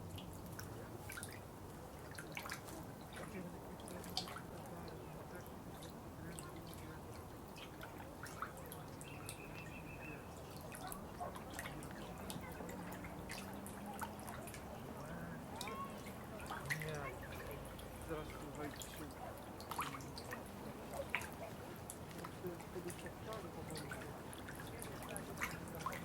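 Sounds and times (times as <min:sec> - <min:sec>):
water gurgling: 0:00.0 - 0:26.0.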